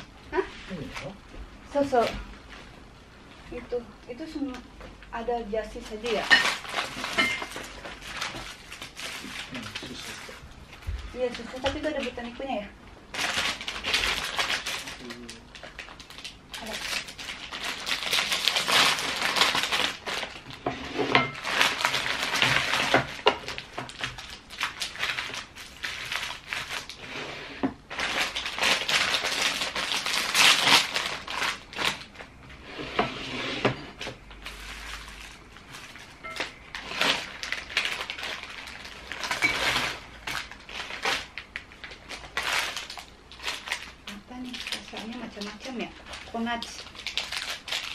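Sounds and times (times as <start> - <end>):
plastic wrappers crinkling: 3.6 - 27.2, 27.8 - 32.4, 33.9 - 47.9.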